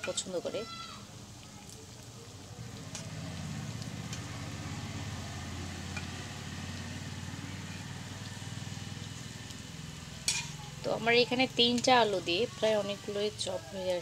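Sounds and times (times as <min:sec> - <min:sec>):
potatoes sizzling in hot oil: 0:00.0 - 0:14.0.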